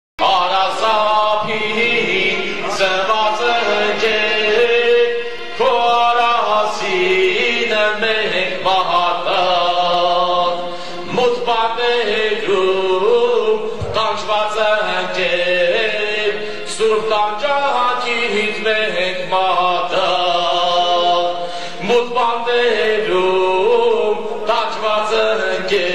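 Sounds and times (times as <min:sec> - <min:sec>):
man singing chant-like: 0:00.2 - 0:25.9.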